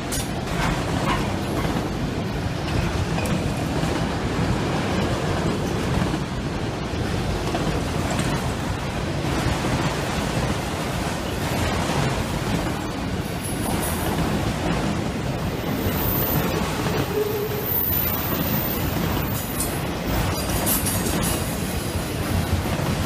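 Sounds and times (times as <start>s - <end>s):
low train rumble: 0.0s - 23.0s
train wheels rushing on rails: 0.0s - 23.0s.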